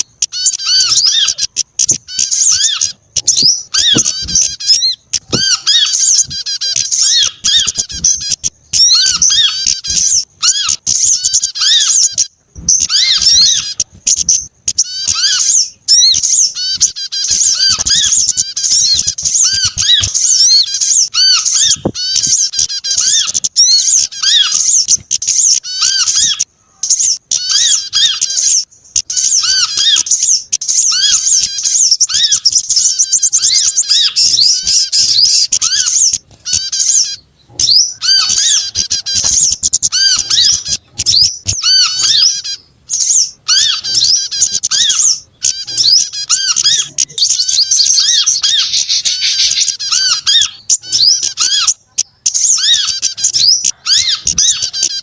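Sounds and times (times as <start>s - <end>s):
songbirds calling: 0.0s - 55.0s.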